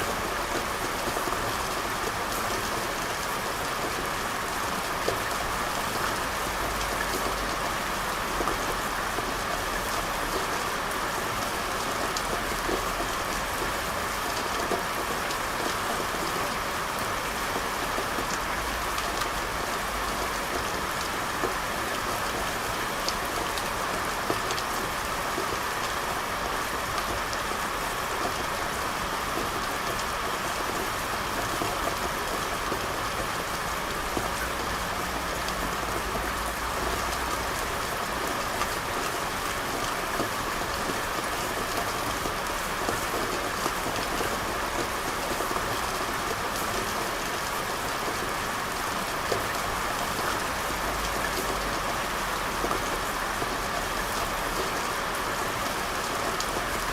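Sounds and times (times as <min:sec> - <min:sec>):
rain falling on a street: 0:00.0 - 0:56.9.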